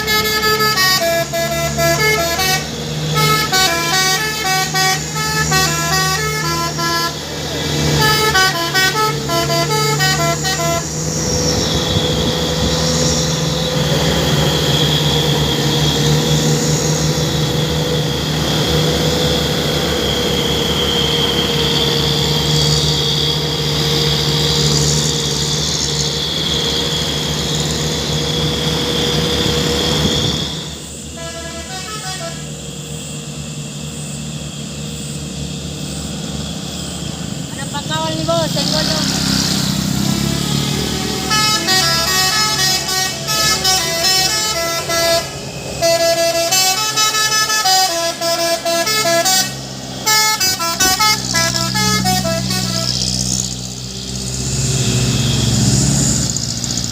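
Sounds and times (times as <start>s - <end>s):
multi-tone truck horn: 0.0s - 32.8s, 37.7s - 53.8s, 54.4s - 56.9s
truck engine running: 0.0s - 56.9s.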